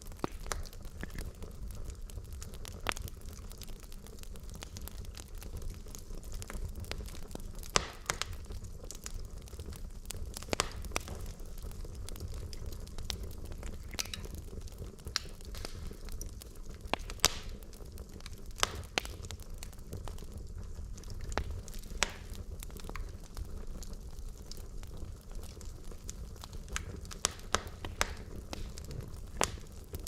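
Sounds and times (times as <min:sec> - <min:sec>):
fire rumble and hiss: 0:00.0 - 0:30.0
logs crackling and popping: 0:00.0 - 0:30.0.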